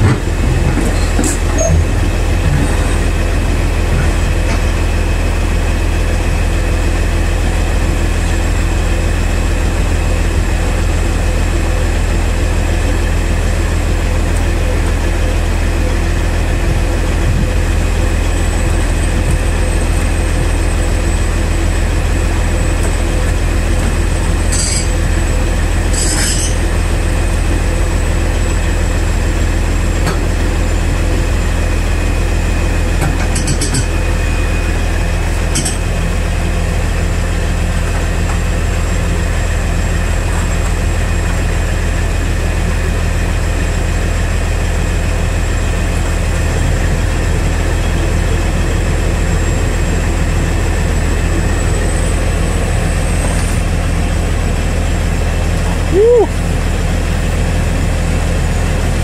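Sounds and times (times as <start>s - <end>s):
excavator engine hum: 0.0s - 59.0s.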